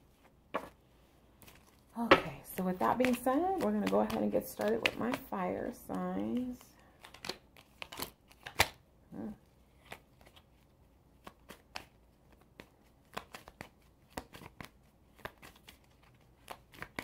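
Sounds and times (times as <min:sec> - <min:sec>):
cards being shuffled: 0:01.4 - 0:08.8, 0:09.7 - 0:17.0.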